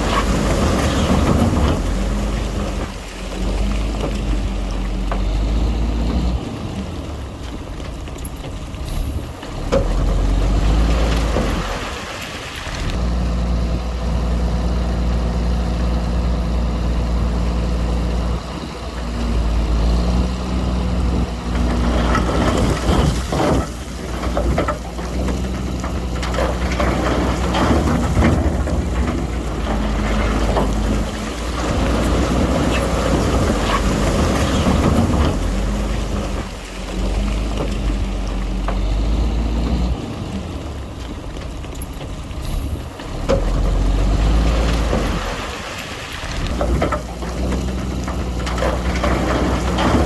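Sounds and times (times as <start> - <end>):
machinery rattling and clanking: 0.0 - 13.1, 16.2 - 50.0
diesel engine running: 0.0 - 50.0.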